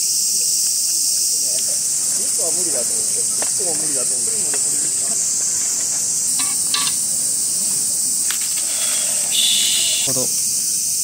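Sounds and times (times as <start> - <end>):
insects chirring: 0.0 - 11.0
faint voices: 0.7 - 10.9.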